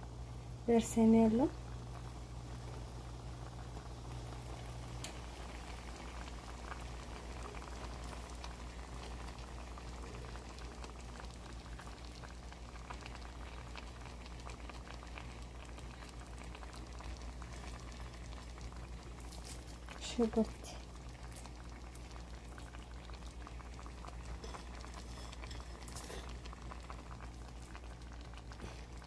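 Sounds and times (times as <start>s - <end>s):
low steady hum: 0.0s - 29.0s
rice bubbling in a pan: 0.0s - 29.0s.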